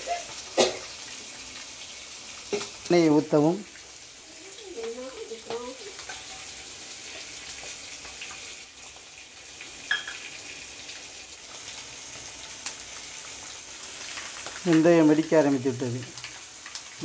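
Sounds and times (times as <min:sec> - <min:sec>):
oil sizzling: 0:00.0 - 0:17.0
seeds crackling in oil: 0:00.0 - 0:17.0.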